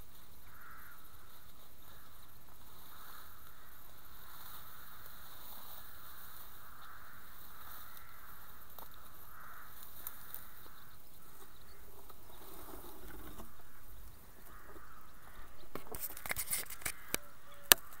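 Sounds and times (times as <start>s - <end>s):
distant bird calls: 0.0s - 18.0s
dry stalks rustling against glider: 0.0s - 18.0s.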